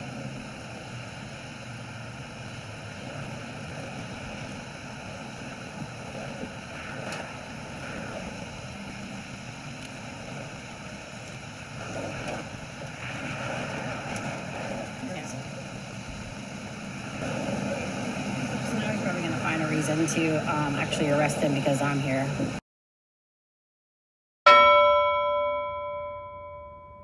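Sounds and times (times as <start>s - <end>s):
traffic on a busy road: 0.0s - 22.6s.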